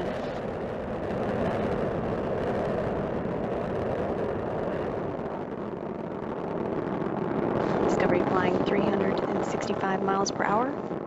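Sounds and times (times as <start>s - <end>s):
crackling rocket rumble: 0.0s - 11.0s.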